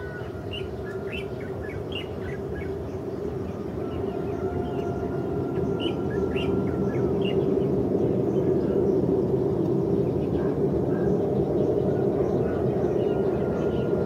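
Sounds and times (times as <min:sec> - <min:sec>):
birds chirping: 0:00.0 - 0:14.0
jet engines at takeoff power: 0:00.0 - 0:14.0.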